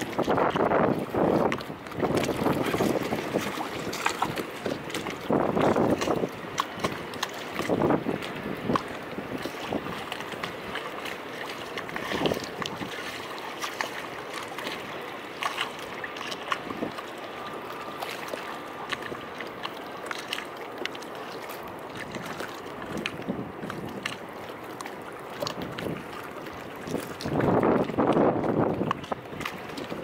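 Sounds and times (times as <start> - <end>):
waves lapping against steps: 0.0 - 30.0.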